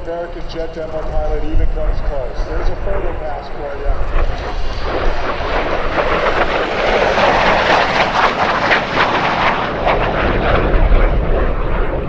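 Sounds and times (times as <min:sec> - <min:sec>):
jet aircraft low pass: 0:00.0 - 0:12.0.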